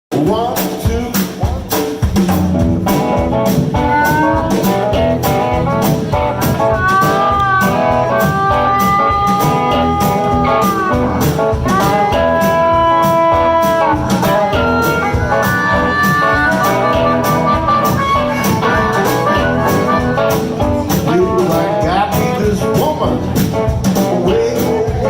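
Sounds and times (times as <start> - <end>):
bass guitar: 0.1 - 25.0
drum beat: 0.2 - 25.0
electric guitar lead: 0.4 - 25.0.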